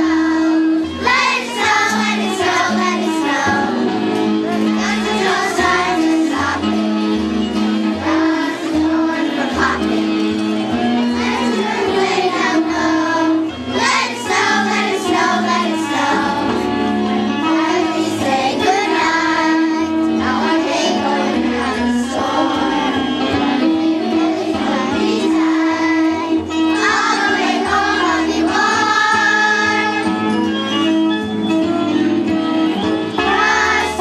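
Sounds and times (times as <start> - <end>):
children's choir singing: 0.0 - 30.4, 32.7 - 34.0
instrumental accompaniment: 0.0 - 34.0.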